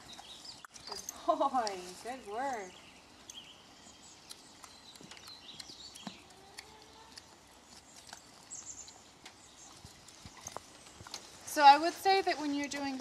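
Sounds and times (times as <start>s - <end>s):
donkey hooves on mucky ground: 0.0s - 3.5s, 4.2s - 13.0s.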